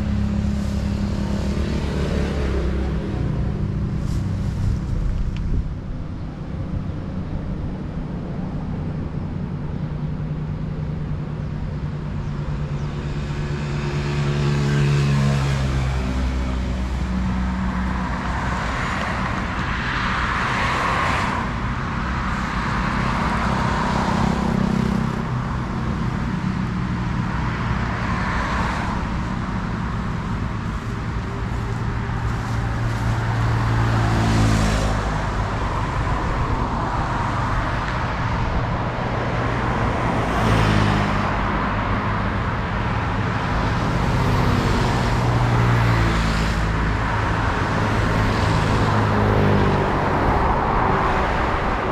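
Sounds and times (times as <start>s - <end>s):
truck engines humming: 0.0s - 51.9s
vehicles passing: 0.0s - 51.9s.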